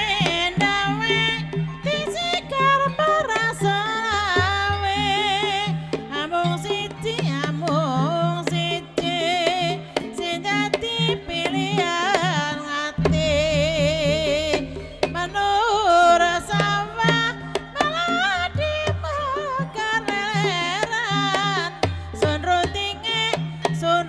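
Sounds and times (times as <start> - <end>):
hand drum strokes: 0.0 - 24.0
low gamelan drone: 0.0 - 24.0
person singing with vibrato: 0.0 - 24.0.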